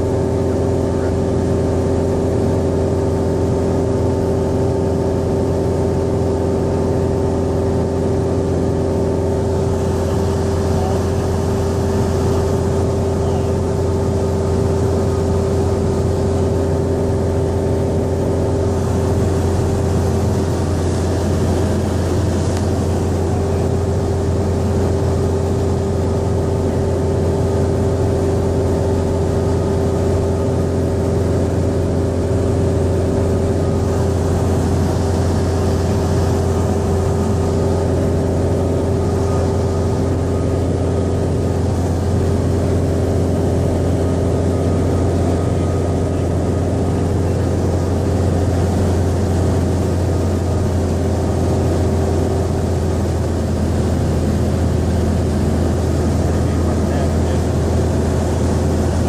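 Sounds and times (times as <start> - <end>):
light plane engine droning: 0.0 - 59.0.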